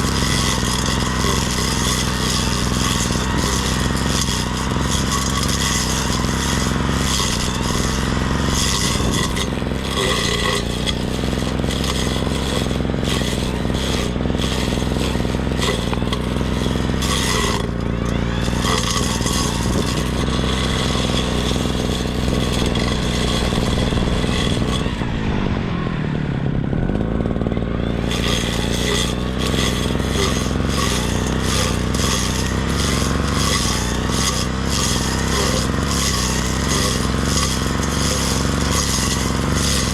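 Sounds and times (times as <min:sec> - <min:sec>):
cutting head clattering through grass: 0:00.0 - 0:25.1, 0:27.9 - 0:39.9
brush cutter engine running: 0:00.0 - 0:39.9.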